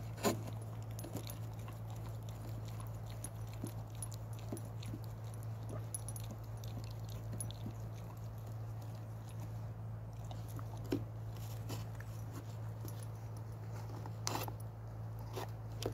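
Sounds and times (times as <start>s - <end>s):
dog gnawing frozen bone: 0.0s - 15.9s
steady low hum: 0.0s - 15.9s.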